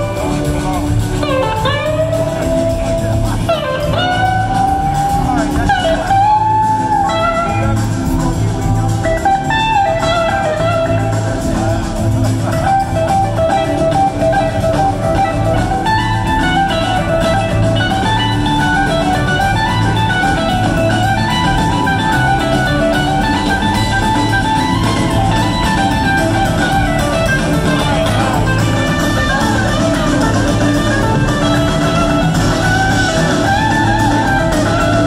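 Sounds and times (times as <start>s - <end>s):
bass guitar: 0.0s - 35.0s
drums: 0.0s - 35.0s
electric guitar lead line: 0.0s - 35.0s.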